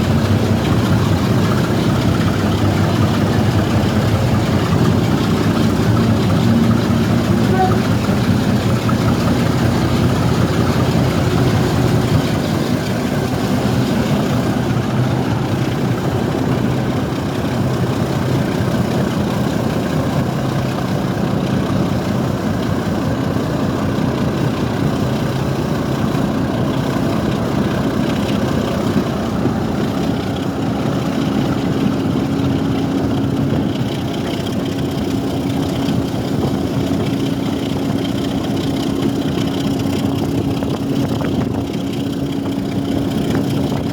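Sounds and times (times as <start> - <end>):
diesel locomotive engine working hard: 0.0 - 43.9
wind buffeting microphone: 0.0 - 43.9.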